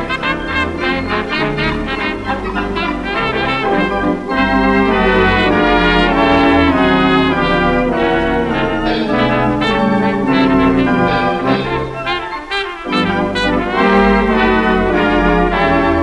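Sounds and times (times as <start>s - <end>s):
hot jazz band with pipe organ: 0.0s - 16.0s.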